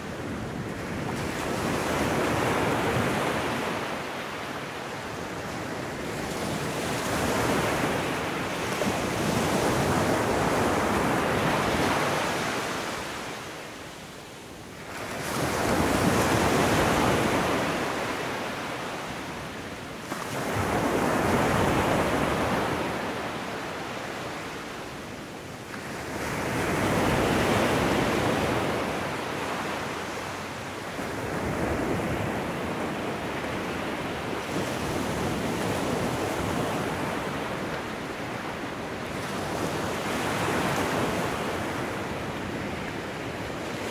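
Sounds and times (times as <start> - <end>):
waves washing in and out: 0.0 - 43.9.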